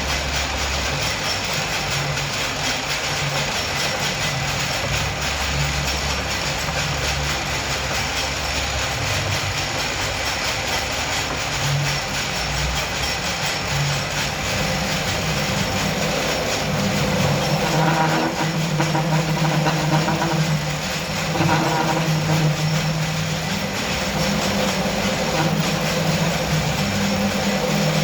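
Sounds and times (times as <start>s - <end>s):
large vehicle rumbling: 0.0s - 28.0s.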